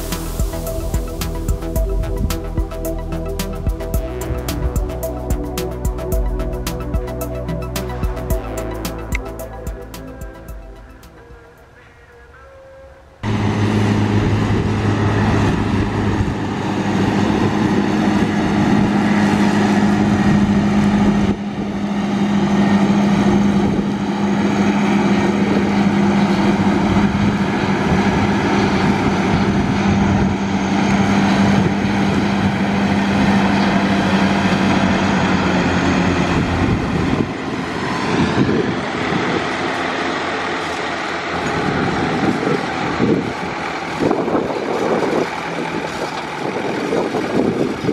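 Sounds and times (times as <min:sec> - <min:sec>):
tractor diesel engine humming: 0:00.0 - 0:47.9.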